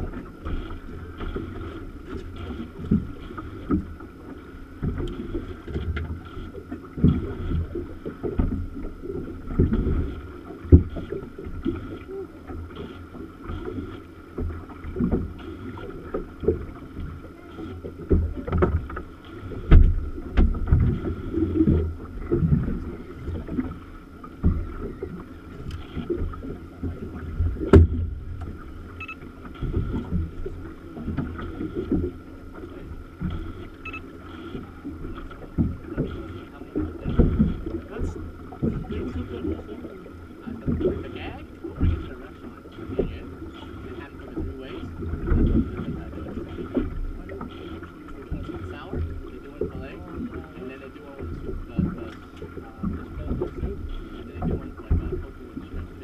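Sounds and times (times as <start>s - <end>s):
boat hull knocking: 0.0s - 56.0s
water slapping against hull: 0.0s - 56.0s.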